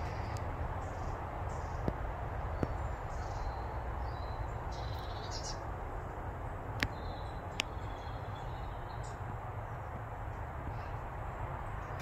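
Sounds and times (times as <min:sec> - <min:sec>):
small birds calling: 0:00.0 - 0:12.0.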